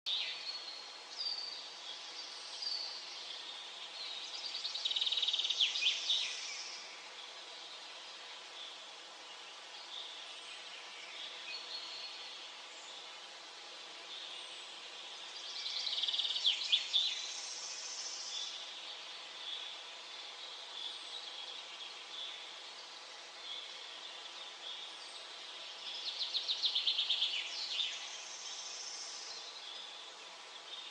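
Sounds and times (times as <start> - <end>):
faint background hiss: 0.1 - 30.9
songbirds singing: 0.1 - 30.9.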